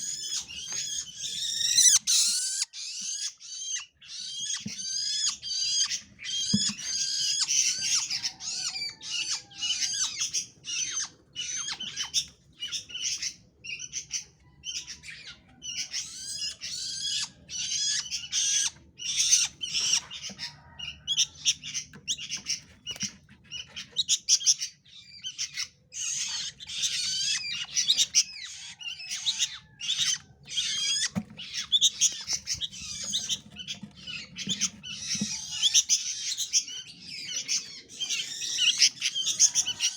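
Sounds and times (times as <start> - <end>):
songbird singing and chattering: 0.0 - 39.9.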